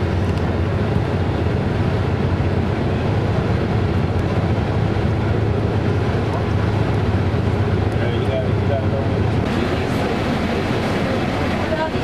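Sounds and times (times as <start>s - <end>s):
vehicle engine and tyres rumbling: 0.0s - 12.0s.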